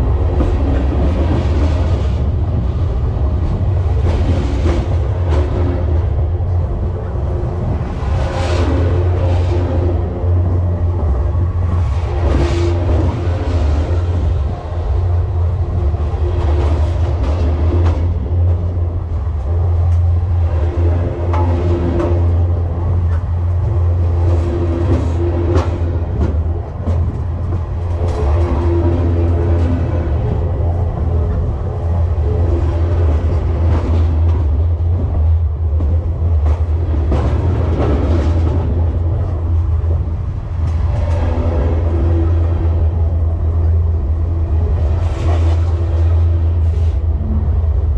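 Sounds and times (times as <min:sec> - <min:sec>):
train wheels rumbling on track: 0:00.0 - 0:47.9.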